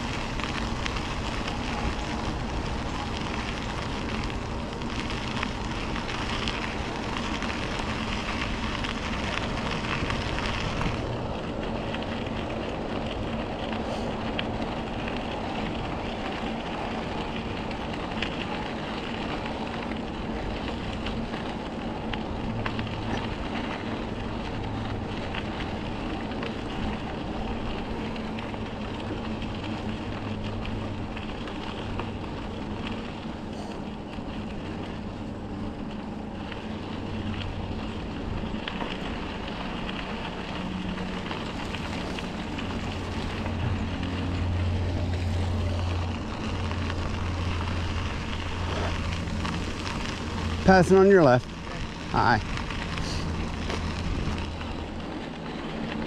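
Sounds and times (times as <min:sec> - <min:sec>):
bicycle tyre noise on trail: 0:00.0 - 0:56.0
wind rush on microphone: 0:00.0 - 0:56.0.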